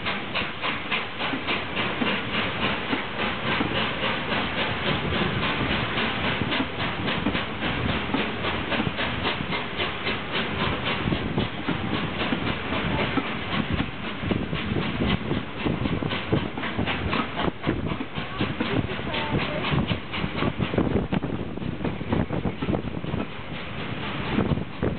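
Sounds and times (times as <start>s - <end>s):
steam hissing: 0.0s - 24.9s
wheels clicking over rail joints: 0.0s - 24.9s.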